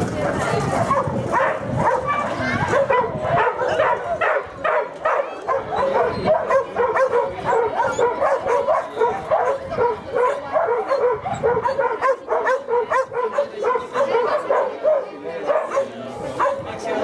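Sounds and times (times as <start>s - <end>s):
dogs barking and yipping: 0.2s - 16.7s.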